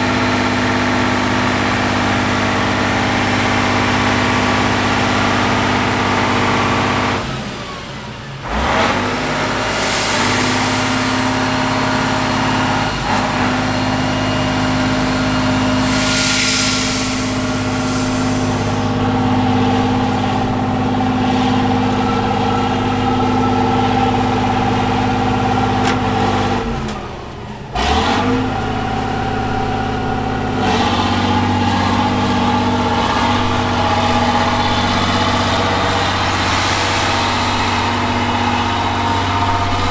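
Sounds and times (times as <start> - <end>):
diesel truck engine under load: 0.0 - 39.9
truck wading through muddy water: 0.0 - 39.9.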